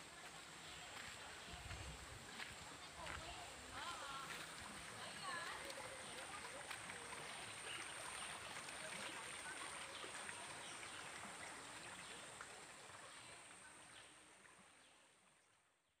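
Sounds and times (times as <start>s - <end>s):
faint running water: 0.0s - 16.0s.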